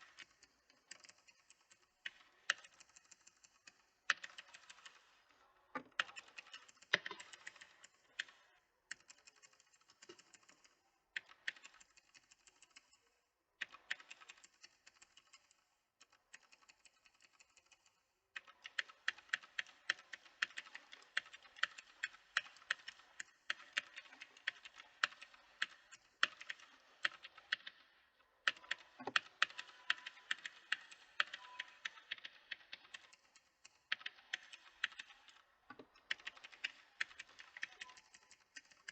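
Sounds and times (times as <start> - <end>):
typing on mechanical keyboard: 0.0 - 13.0, 13.6 - 38.9.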